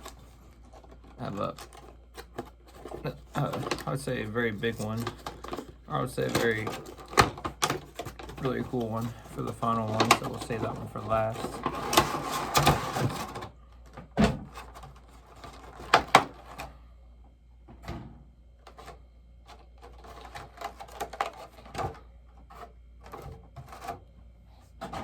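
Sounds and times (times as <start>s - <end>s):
box and packaging handled: 0.0s - 16.8s, 18.6s - 25.0s.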